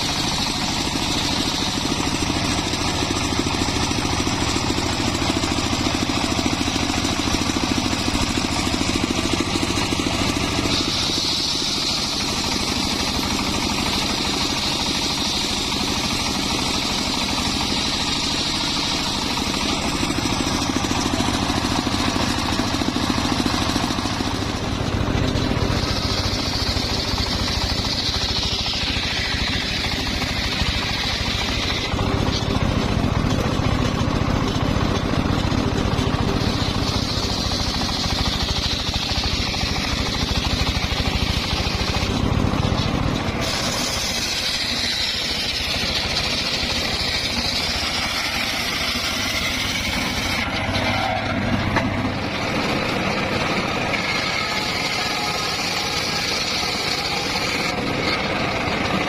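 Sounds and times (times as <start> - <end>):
saw blade whine cutting log: 0.0 - 59.0
sawmill engine running: 0.0 - 59.0.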